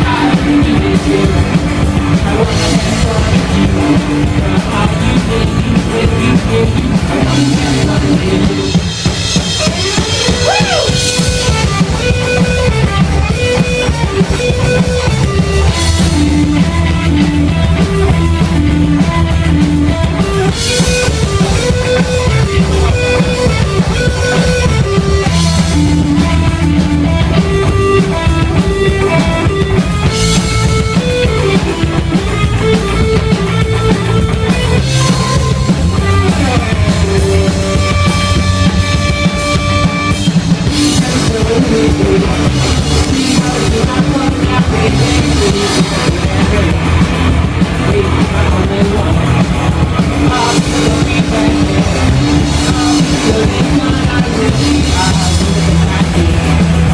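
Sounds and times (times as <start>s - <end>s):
punk rock band playing: 0.0s - 56.9s.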